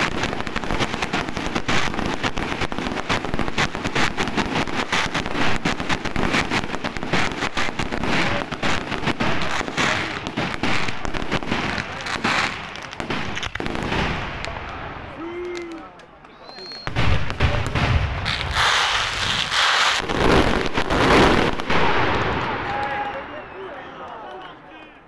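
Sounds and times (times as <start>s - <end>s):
fireworks bursting and crackling: 0.0s - 24.6s.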